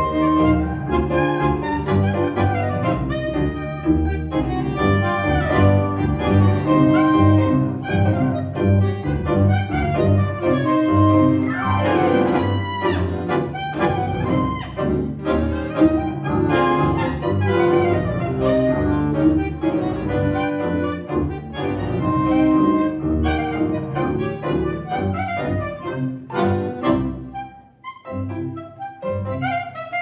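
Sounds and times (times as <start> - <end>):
tango quartet playing live: 0.0 - 30.0.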